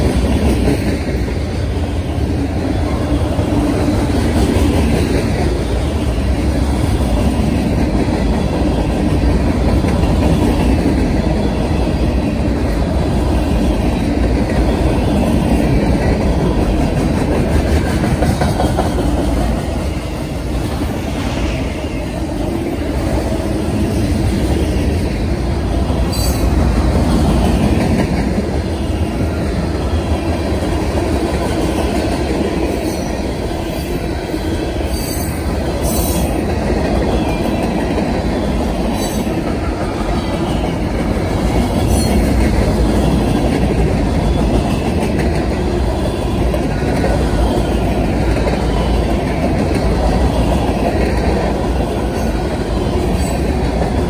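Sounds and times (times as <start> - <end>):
clickety-clack over rail joints: 0.0 - 54.0
freight train wheels rumbling: 0.0 - 54.0.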